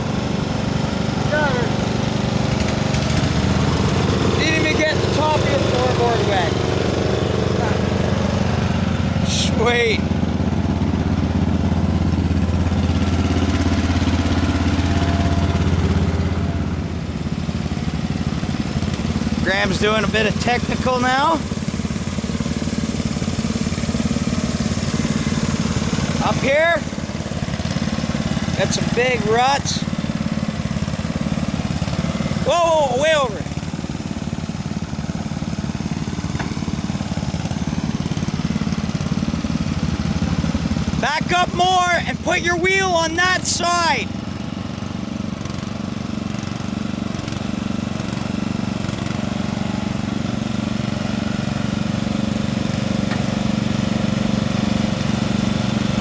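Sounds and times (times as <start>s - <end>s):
small tractor engine running: 0.0s - 56.0s.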